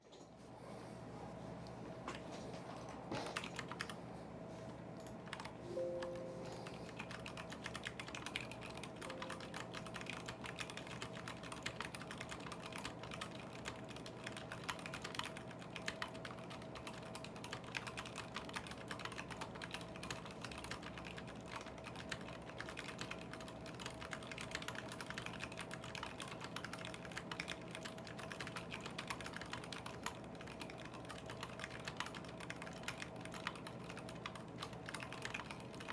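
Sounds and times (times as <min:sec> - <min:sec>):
mechanical keyboard typing: 0:03.3 - 0:04.0, 0:05.0 - 0:35.9.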